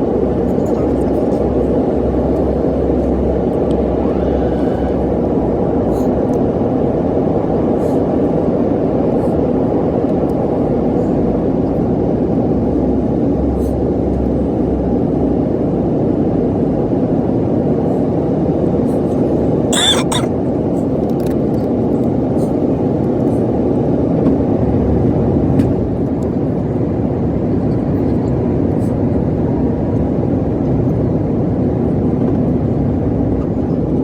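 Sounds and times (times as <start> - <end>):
airliner cabin roar: 0.0 - 34.0.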